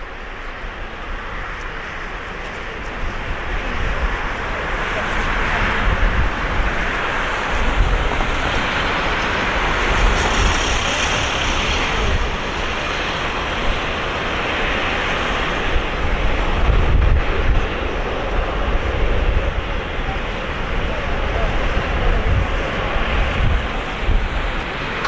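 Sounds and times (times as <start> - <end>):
jet engines roaring: 0.0 - 25.0
wind buffeting microphone: 0.0 - 25.0.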